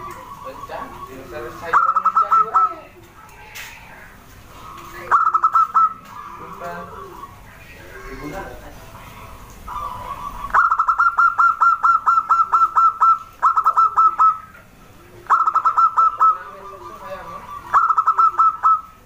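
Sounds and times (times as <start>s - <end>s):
doves rapid sharp calls: 0.0s - 19.0s.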